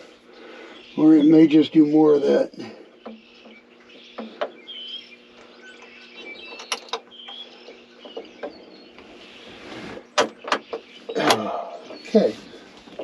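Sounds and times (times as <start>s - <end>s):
bird chirping: 0.0s - 13.0s
steady low hum: 0.0s - 13.0s.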